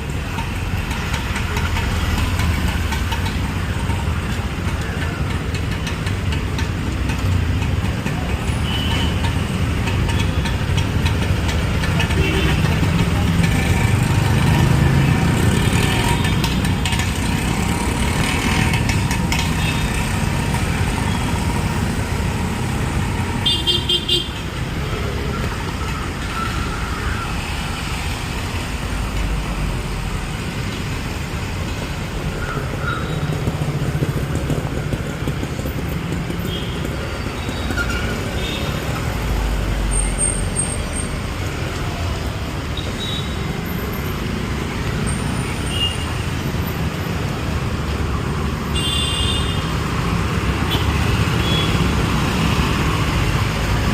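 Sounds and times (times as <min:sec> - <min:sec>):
street traffic rumble: 0:00.0 - 0:53.9.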